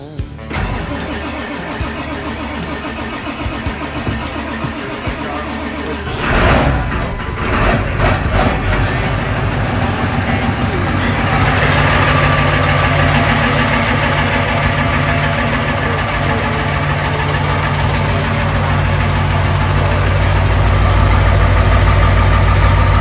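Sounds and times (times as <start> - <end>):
diesel engine idling: 0.4 - 23.0.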